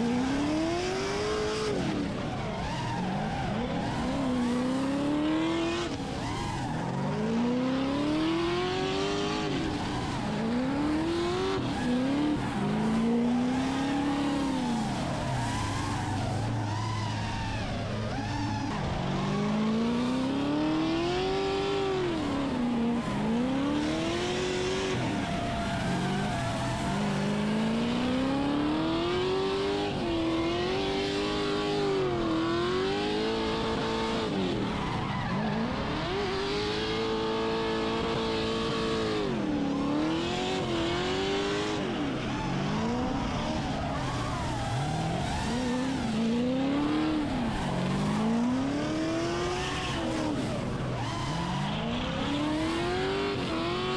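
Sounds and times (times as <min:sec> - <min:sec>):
car engine revving hard: 0:03.6 - 0:53.9.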